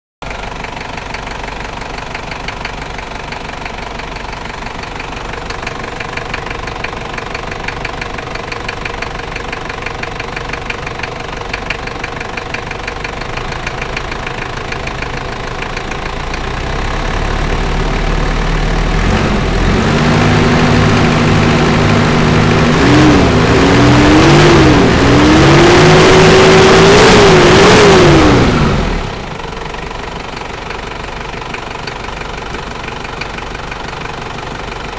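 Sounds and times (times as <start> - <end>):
diesel engine idling with knock: 0.2 - 34.9
diesel engine revving: 0.5 - 34.9.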